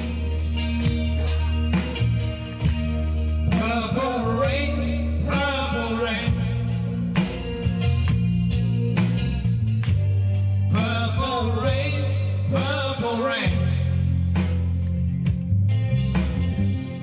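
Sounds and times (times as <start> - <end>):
bass line: 0.0 - 17.0
guitar: 0.0 - 17.0.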